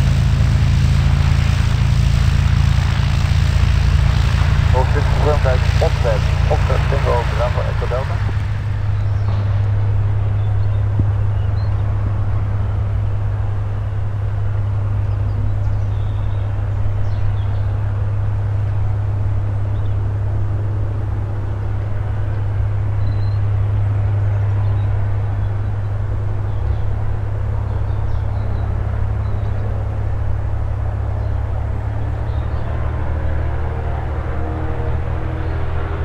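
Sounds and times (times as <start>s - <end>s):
aircraft piston engine and propeller: 0.0s - 36.0s.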